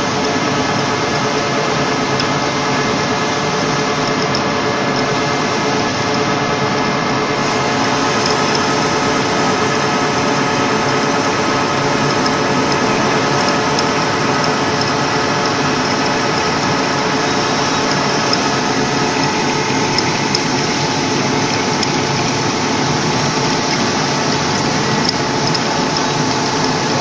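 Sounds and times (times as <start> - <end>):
metal lathe humming: 0.0 - 27.0.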